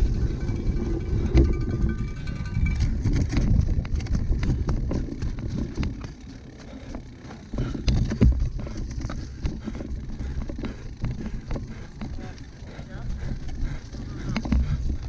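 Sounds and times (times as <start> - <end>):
bike rattling clicks and knocks: 0.0 - 15.0
wind and tyres rumbling: 0.0 - 15.0.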